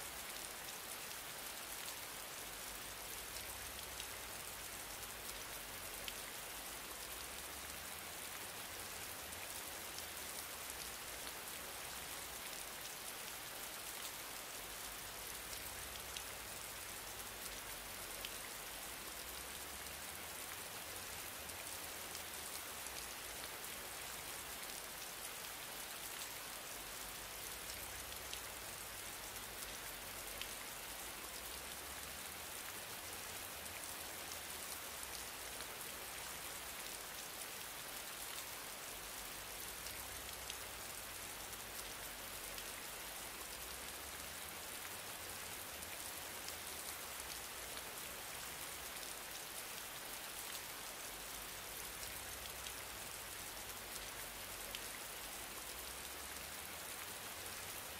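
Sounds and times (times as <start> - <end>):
rain-like hiss: 0.0 - 57.9.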